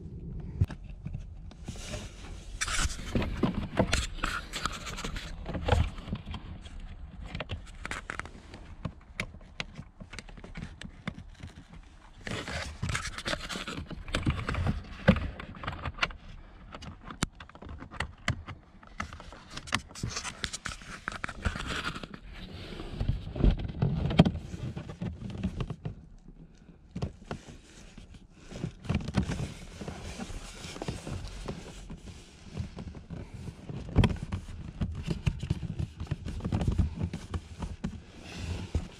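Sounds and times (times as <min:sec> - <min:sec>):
plastic parts scraping and clicking: 0:00.3 - 0:38.9.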